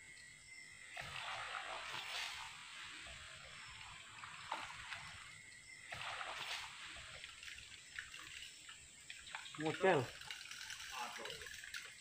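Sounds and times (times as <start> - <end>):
lure splashing on water: 0.9 - 12.0.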